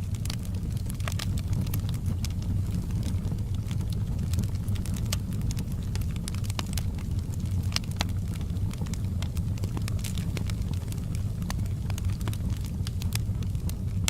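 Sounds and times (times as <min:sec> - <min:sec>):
fire burning low rumble: 0:00.0 - 0:14.0
fire crackles and pops: 0:00.0 - 0:14.0.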